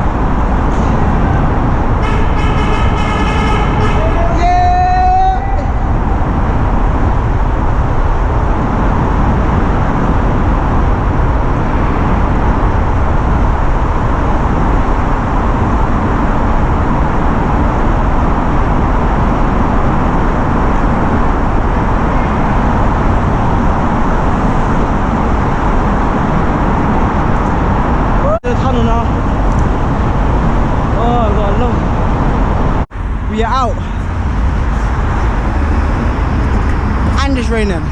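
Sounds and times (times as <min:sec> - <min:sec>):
low rumble: 0:00.0 - 0:04.4, 0:05.4 - 0:37.9
wind noise on microphone: 0:00.0 - 0:37.9.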